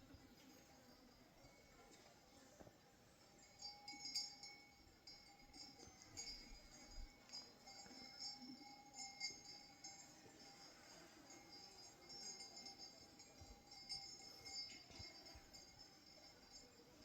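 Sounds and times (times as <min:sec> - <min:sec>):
sheep bells jingling: 0:00.0 - 0:17.0.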